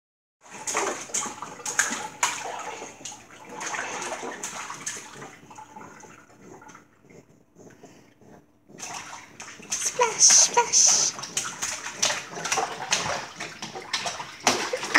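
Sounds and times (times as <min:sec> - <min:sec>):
baby splashing water in a sink: 0:00.4 - 0:07.6, 0:08.7 - 0:14.9.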